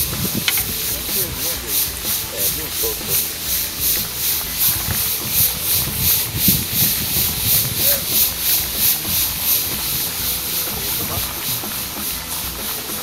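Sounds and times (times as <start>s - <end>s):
paddlewheel aerator churning water: 0.0s - 13.0s.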